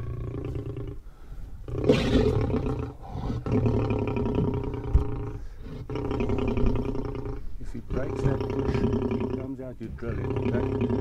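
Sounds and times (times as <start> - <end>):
lion growling and roaring: 0.0 - 1.0, 1.6 - 11.0.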